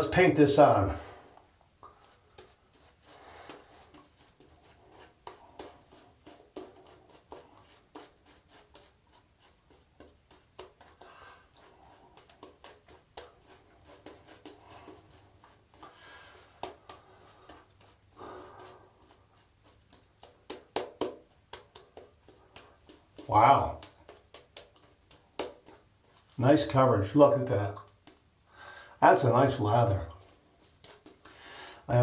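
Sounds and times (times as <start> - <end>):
shaving brush swishing on stubble: 1.5 - 28.4, 29.0 - 32.0.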